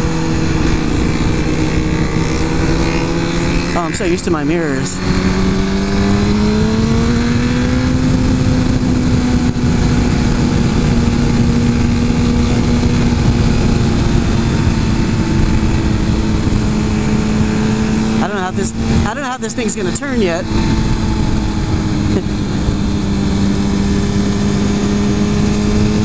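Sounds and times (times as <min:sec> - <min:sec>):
motorcycle engine running: 0:00.0 - 0:26.0
wind rush: 0:00.0 - 0:26.0.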